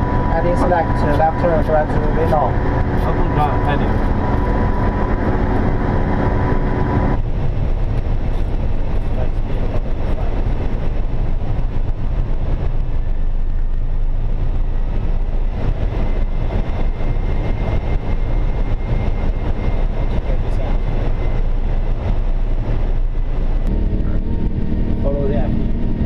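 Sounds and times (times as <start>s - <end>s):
low rumble of airflow and engines: 0.0s - 26.0s.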